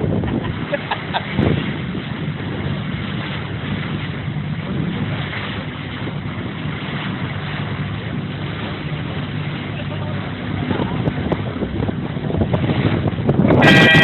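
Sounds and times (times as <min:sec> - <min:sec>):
boat engine droning: 0:00.0 - 0:14.0
wind noise on microphone: 0:00.0 - 0:14.0.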